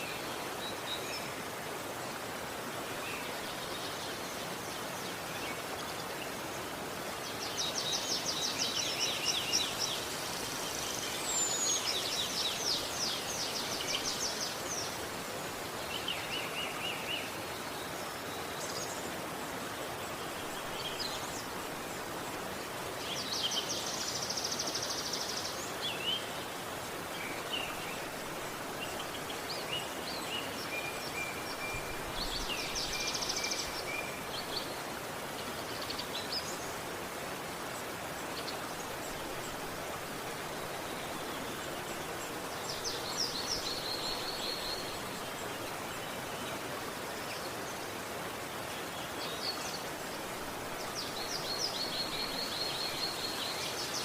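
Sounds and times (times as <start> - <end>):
river water rushing: 0.0 - 54.0
songbirds trilling and chirping: 0.0 - 54.0.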